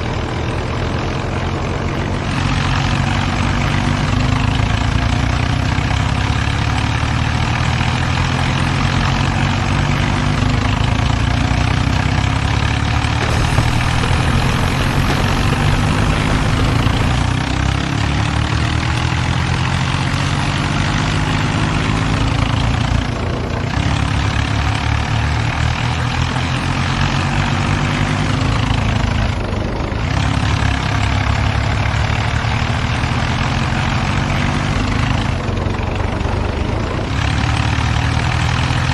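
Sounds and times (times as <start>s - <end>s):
tractor diesel engines under load: 0.0s - 38.9s.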